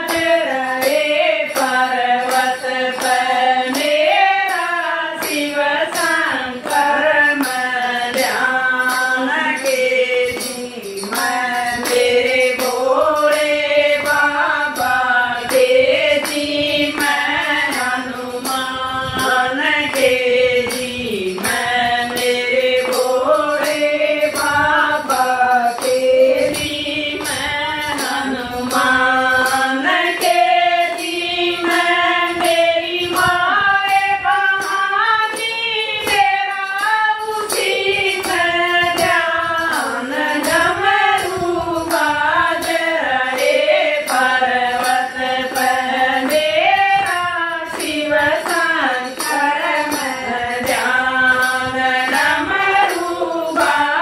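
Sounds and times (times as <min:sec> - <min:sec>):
hand-clapping: 0:00.0 - 0:54.0
women singing devotional song: 0:00.0 - 0:54.0.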